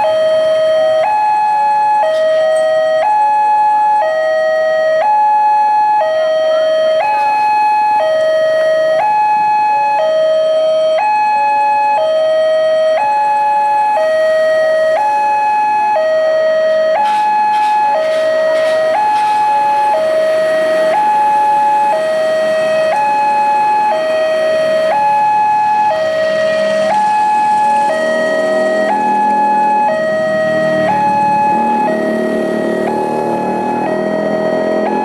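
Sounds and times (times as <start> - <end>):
level crossing two-tone alarm: 0.0 - 35.0.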